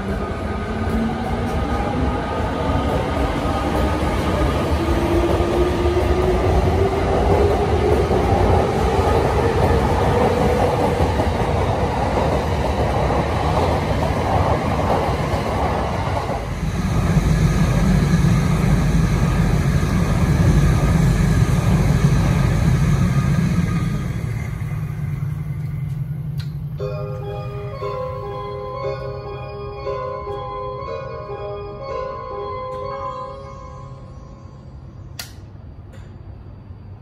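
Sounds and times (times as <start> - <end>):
standing train low hum: 0.0 - 37.0.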